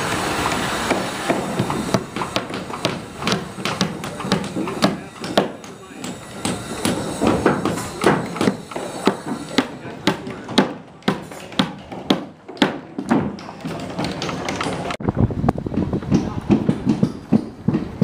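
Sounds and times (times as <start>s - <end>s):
hammer knocking on wood: 0.9s - 15.0s, 15.8s - 18.0s.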